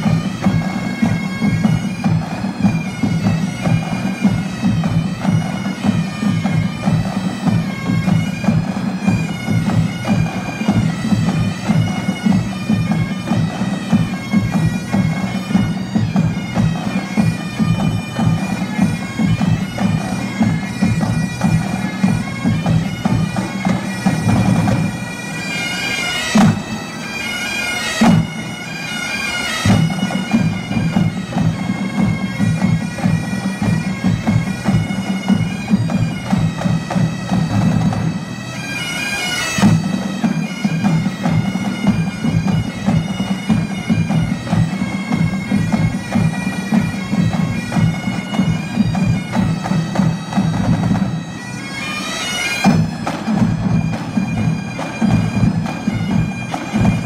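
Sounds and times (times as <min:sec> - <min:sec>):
pipe band playing: 0:00.0 - 0:57.0.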